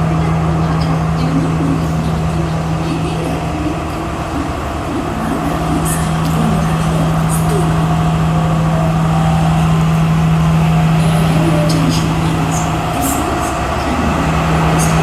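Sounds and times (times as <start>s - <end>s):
diesel train idling: 0.0s - 15.0s.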